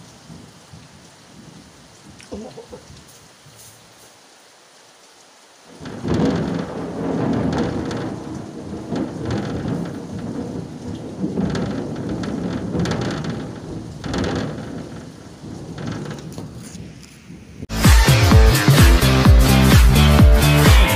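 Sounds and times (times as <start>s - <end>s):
thunder clap and rumble: 0.0s - 3.0s, 5.7s - 20.9s.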